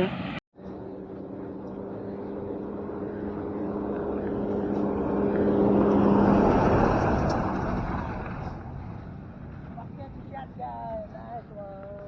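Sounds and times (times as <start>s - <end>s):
vehicle passing by: 0.0s - 10.6s.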